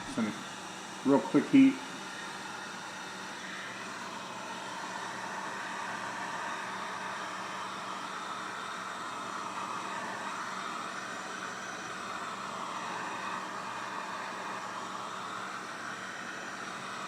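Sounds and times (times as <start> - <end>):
heat gun blowing air: 0.0 - 17.0.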